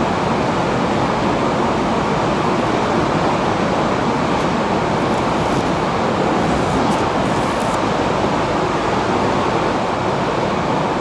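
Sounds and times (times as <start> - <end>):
machinery and ventilation hum: 0.0 - 11.0.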